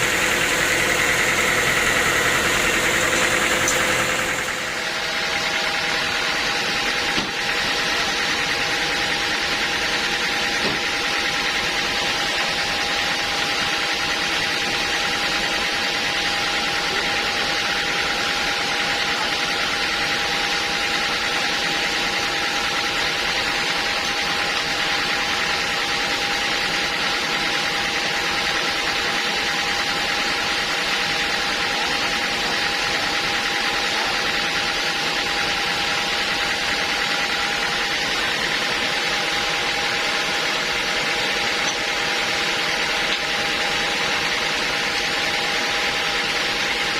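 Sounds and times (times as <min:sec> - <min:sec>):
sawmill machinery with whine: 0:00.0 - 0:46.9.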